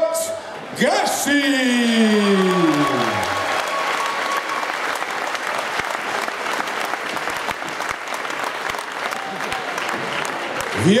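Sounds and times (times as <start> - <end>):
audience applauding: 1.8 - 11.0.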